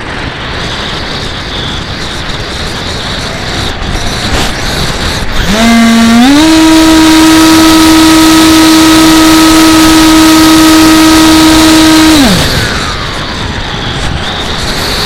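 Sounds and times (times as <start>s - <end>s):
electric motor propeller whine: 0.0s - 15.0s
wind on microphone: 0.0s - 15.0s.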